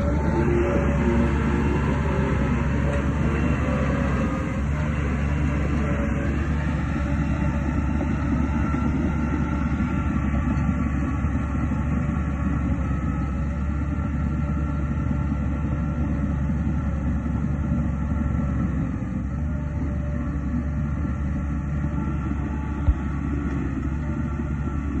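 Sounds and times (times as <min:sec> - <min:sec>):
diesel machinery engine drone: 0:00.0 - 0:25.0.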